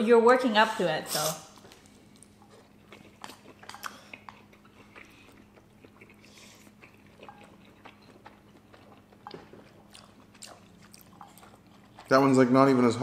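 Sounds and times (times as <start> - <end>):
chewing and mouth clicks: 1.2 - 12.5.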